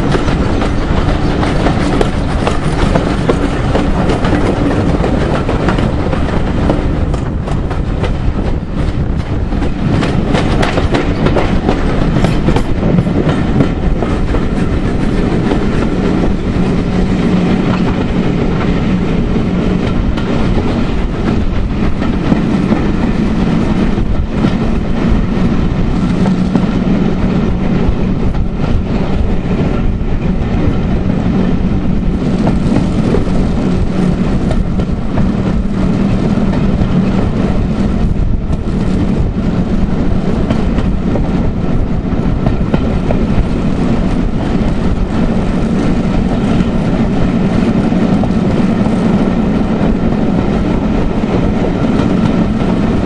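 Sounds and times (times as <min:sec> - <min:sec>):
clickety-clack over rail joints: 0:00.0 - 0:53.0
train wheels rumbling: 0:00.0 - 0:53.0.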